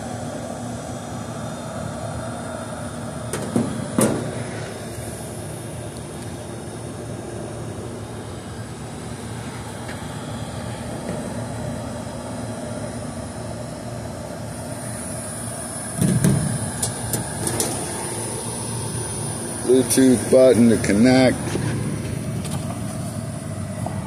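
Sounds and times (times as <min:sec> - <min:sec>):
air conditioning unit drone: 0:00.0 - 0:24.0.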